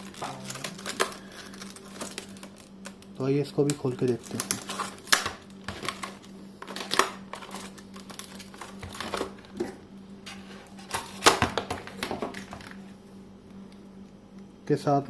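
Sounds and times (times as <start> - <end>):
packaging clicks and rustles: 0.0 - 9.6, 10.3 - 12.8.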